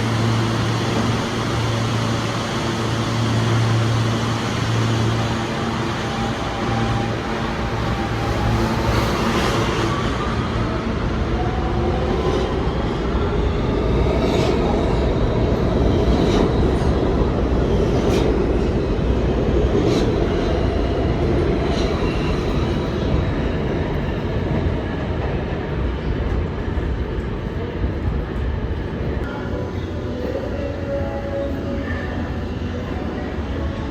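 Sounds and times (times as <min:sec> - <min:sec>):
subway train rumble: 0:00.0 - 0:33.9.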